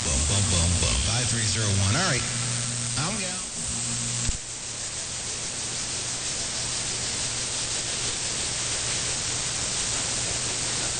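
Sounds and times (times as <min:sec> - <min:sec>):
radio static hiss: 0:00.0 - 0:10.9.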